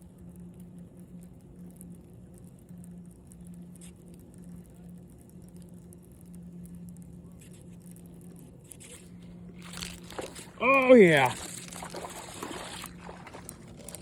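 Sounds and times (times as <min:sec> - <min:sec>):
faint crackling ticks: 0:00.0 - 0:12.1
power pole electric hum: 0:00.0 - 0:14.0.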